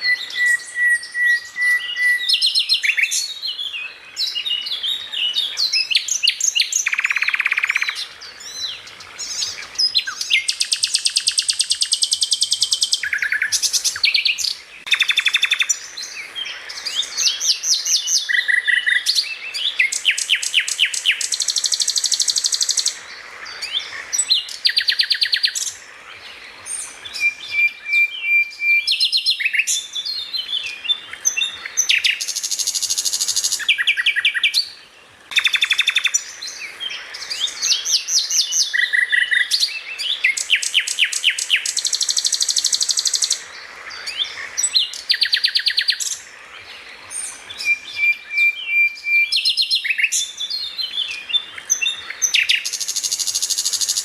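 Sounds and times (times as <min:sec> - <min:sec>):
bird singing fast varied song: 0:00.0 - 0:54.0.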